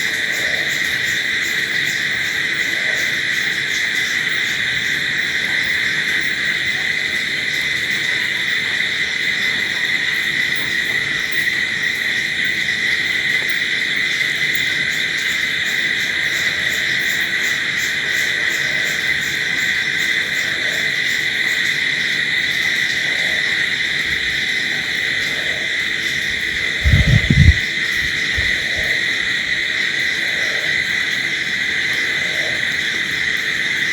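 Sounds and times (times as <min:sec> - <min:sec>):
crickets chirring: 0:00.0 - 0:33.9.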